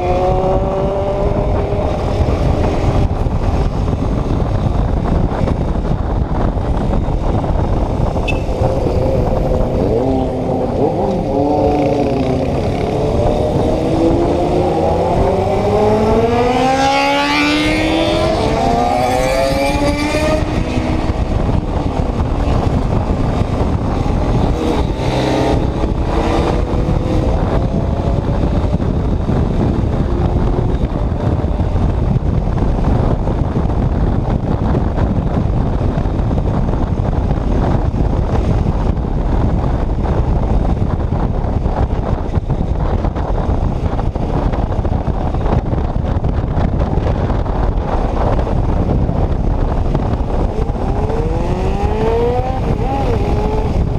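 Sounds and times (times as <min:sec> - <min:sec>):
motorcycle engine accelerating: 0:00.0 - 0:53.9
wind noise on microphone: 0:00.0 - 0:53.9.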